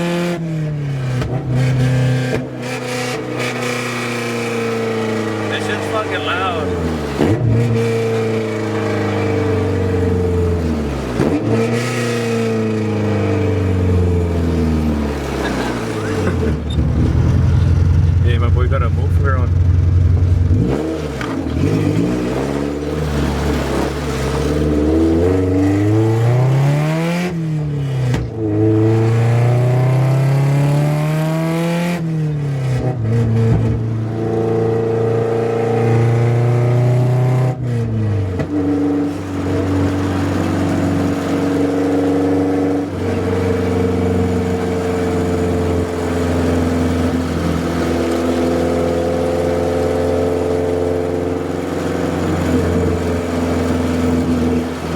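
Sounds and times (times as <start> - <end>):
loud car engine accelerating: 0.0 - 54.9.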